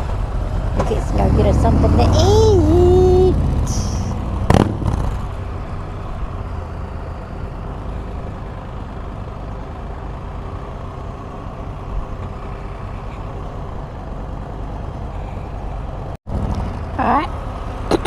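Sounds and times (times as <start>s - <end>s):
motor vehicle engine drone: 0.0s - 18.0s.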